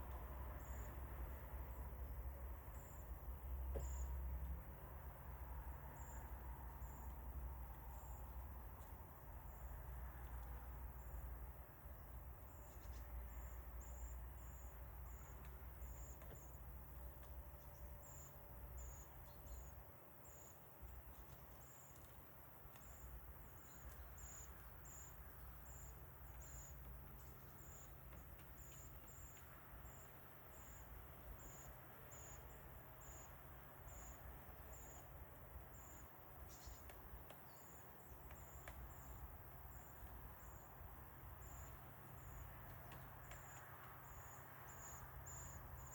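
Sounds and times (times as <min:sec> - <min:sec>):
cricket chirping: 0:00.0 - 0:03.1, 0:05.8 - 0:08.4, 0:09.5 - 0:10.0, 0:11.0 - 0:22.1, 0:22.7 - 0:45.9.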